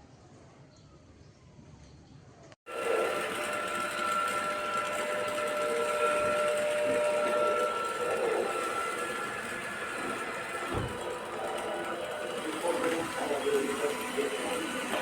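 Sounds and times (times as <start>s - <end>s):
robot vacuum whirring: 2.7s - 15.0s.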